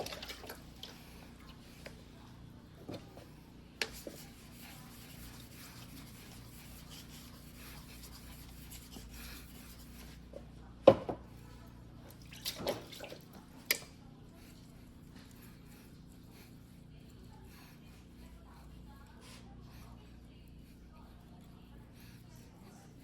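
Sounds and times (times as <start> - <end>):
faint rubbing and handling noises: 0.0 - 23.0.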